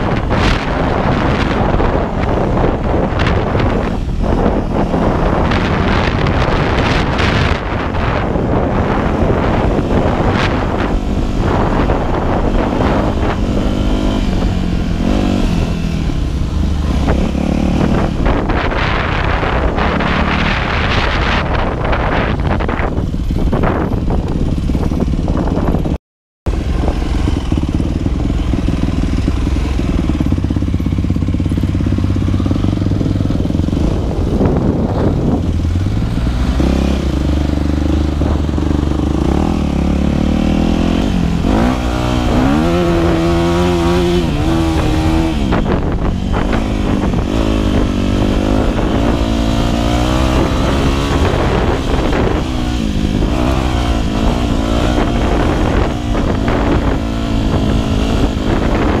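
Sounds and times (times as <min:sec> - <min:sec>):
dirt bike engine revving: 0:00.0 - 0:23.9, 0:26.5 - 0:59.0.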